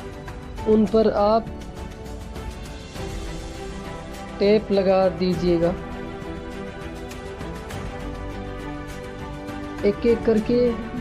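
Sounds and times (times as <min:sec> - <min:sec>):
background music with light beat: 0:00.0 - 0:11.0.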